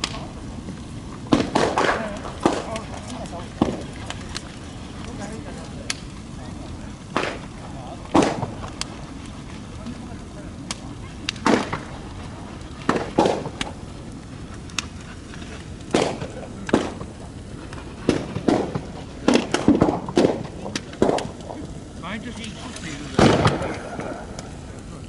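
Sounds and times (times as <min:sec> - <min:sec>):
bonfire crackling: 0:00.0 - 0:25.0
loud sharp pops and cracks: 0:00.0 - 0:25.0.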